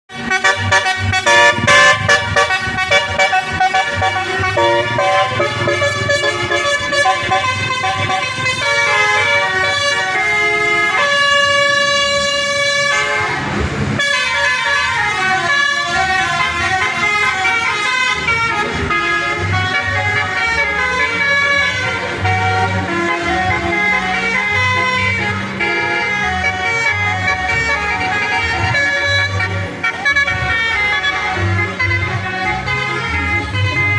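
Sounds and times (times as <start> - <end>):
musical air horn melody: 0.1 - 33.9.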